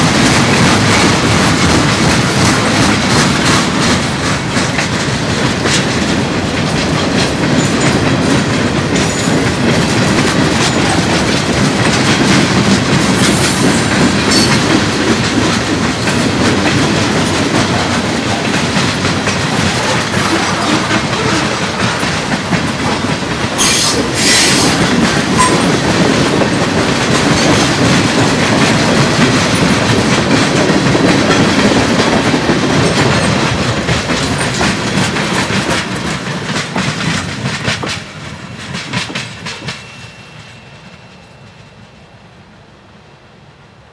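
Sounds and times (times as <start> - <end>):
wheels clacking over rail joints: 0.0 - 40.6
freight train cars rumbling: 0.0 - 43.9.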